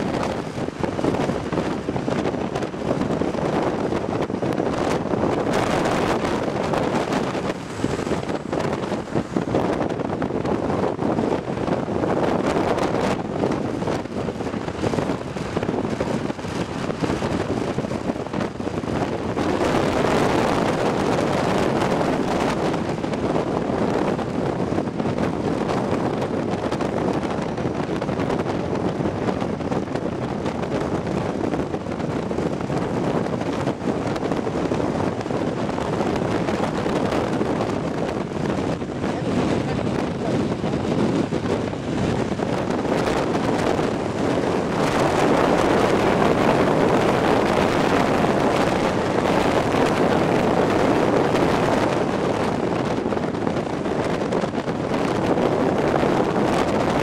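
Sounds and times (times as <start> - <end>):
car driving on road: 0.0 - 57.0
wind on microphone: 0.0 - 57.0.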